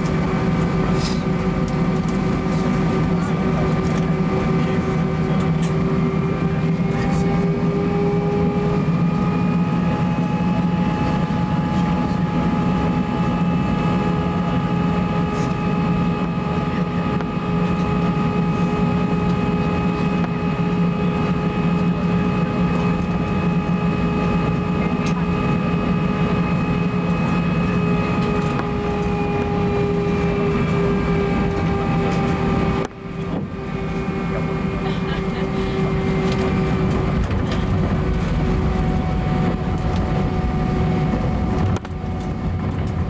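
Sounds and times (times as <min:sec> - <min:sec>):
jet engines idling in cabin: 0:00.0 - 0:43.0.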